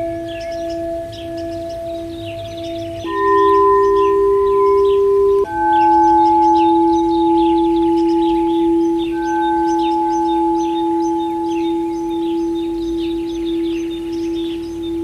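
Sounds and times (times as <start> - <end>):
singing bowl ringing: 0.0 - 15.0
small birds chirping: 0.0 - 15.0.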